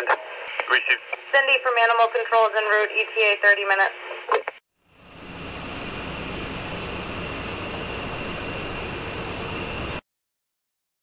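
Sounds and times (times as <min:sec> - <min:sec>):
outdoor night ambience: 0:00.0 - 0:10.0.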